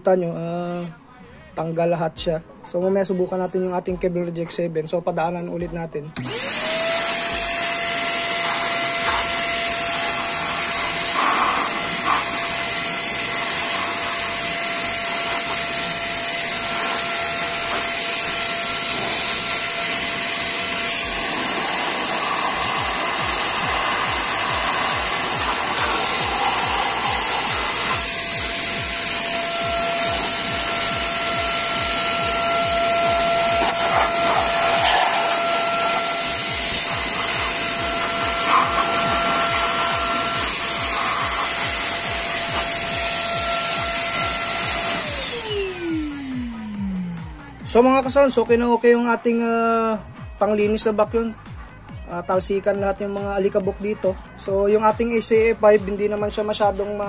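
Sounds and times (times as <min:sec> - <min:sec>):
vacuum motor whining: 0:06.2 - 0:52.0.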